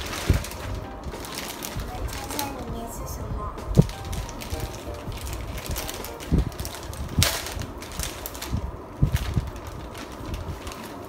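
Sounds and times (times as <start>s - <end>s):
soft low thumps: 0.0s - 10.6s
wrapping paper rustling: 0.0s - 11.0s.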